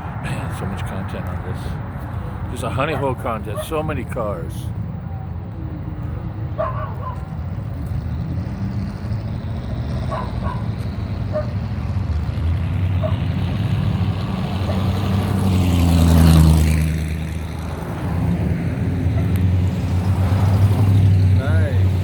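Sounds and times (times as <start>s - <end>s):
loud-exhaust cars driving past: 0.0s - 22.0s.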